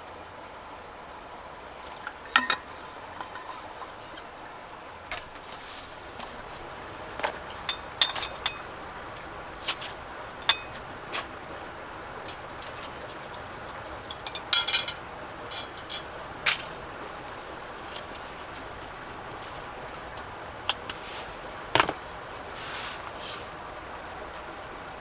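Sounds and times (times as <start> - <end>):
steady background hiss: 0.0 - 25.0
camp cookware clinking: 1.8 - 4.5, 5.1 - 22.5.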